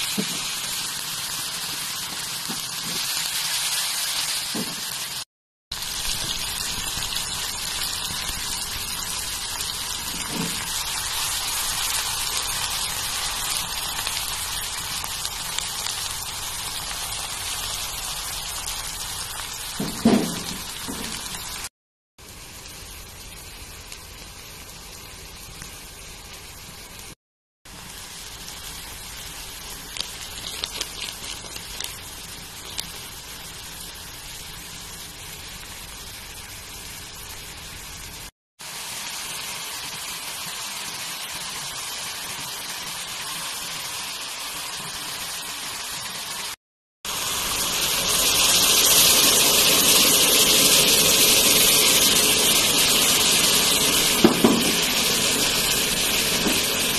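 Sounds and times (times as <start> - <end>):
vegetables sizzling in oil: 0.0 - 56.9.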